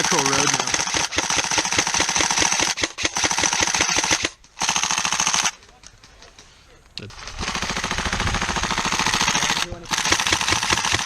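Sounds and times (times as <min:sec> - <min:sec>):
airsoft guns firing: 0:00.0 - 0:05.6, 0:07.2 - 0:11.0.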